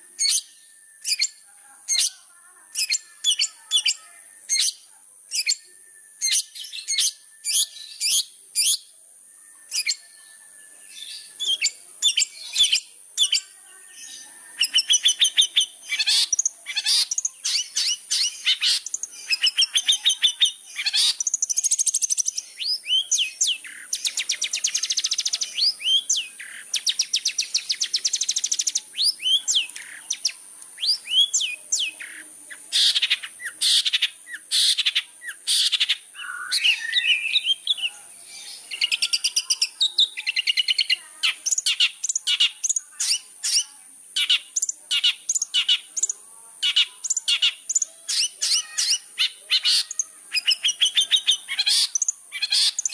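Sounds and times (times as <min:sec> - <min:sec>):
bird song with chips and trills: 0:00.0 - 0:52.9.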